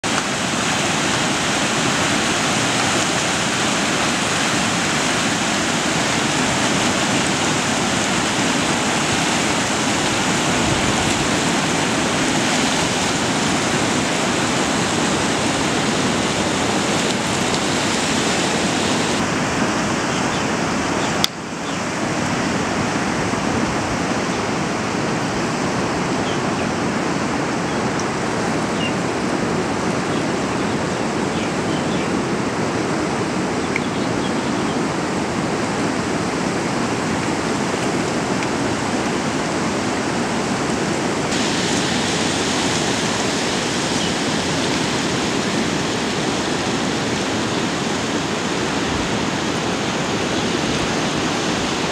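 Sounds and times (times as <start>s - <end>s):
river rushing: 0.0s - 51.9s.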